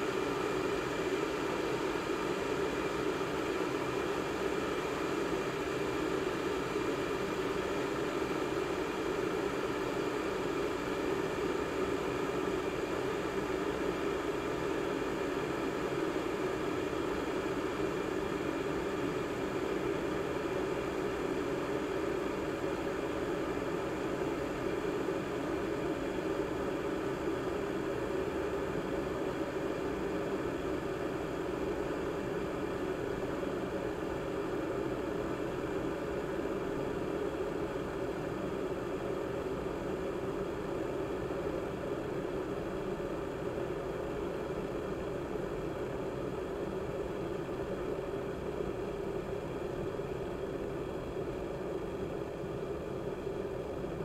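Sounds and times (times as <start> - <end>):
water heater boiling with rumbling hiss: 0.0 - 54.0.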